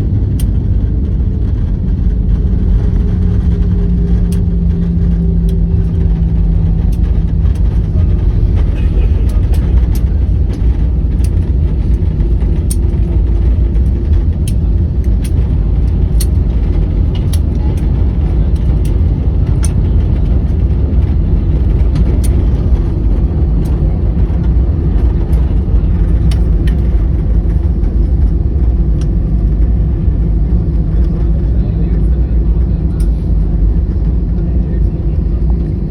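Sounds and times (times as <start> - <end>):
airliner engines rumbling: 0.0 - 35.9.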